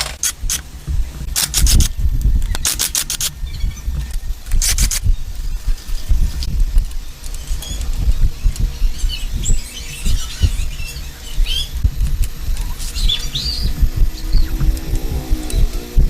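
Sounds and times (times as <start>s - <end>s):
loud low rumble: 0.0s - 16.0s
bird chirps: 1.6s - 16.0s.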